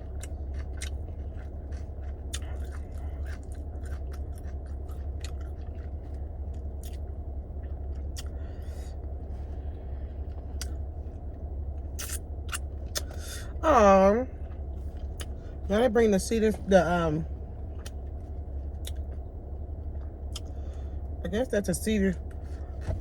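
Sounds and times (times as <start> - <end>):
chewing crunchy food: 0.0 - 13.6, 14.3 - 15.7, 17.6 - 21.1
steady low hum: 0.0 - 23.0.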